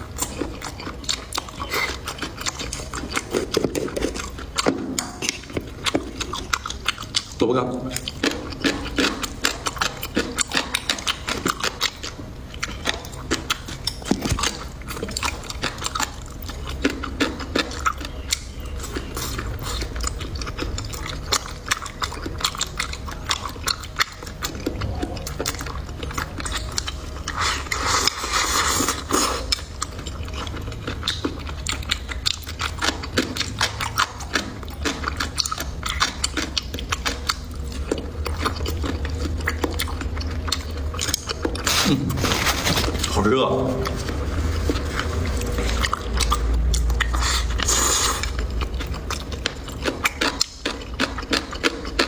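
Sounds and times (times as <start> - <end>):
person chewing crisp food: 0.0 - 52.0.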